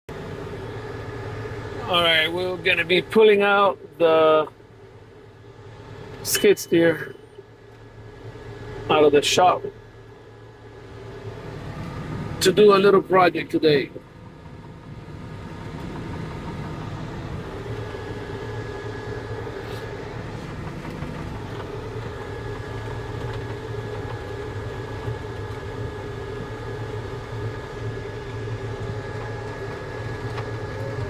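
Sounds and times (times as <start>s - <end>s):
diesel engine droning: 0.1s - 31.0s.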